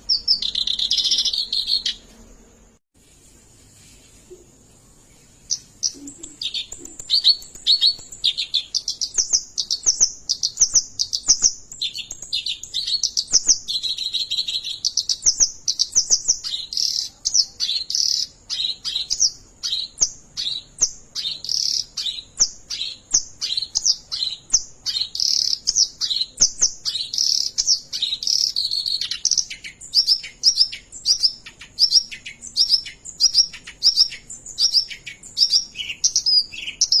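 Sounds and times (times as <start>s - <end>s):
reed warbler singing: 0.0s - 2.0s, 5.4s - 37.0s.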